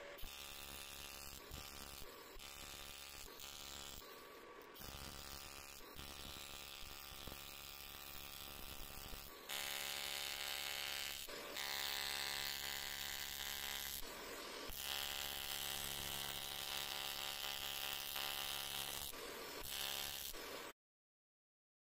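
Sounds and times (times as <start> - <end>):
welding arc buzzing: 0.0 - 20.8.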